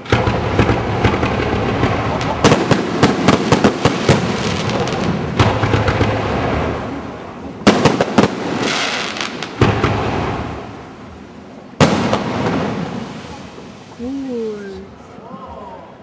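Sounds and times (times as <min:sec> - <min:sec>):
crackling fireworks burst: 0:00.0 - 0:15.0.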